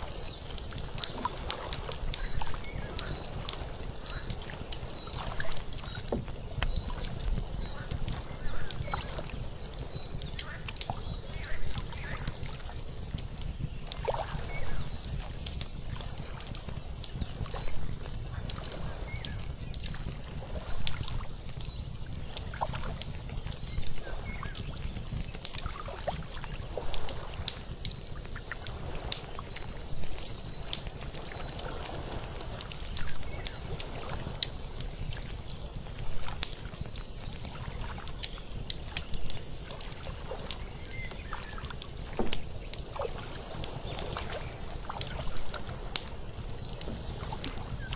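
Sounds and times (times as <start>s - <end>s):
fire crackling and popping: 0.0s - 47.9s
water lapping: 0.0s - 47.9s.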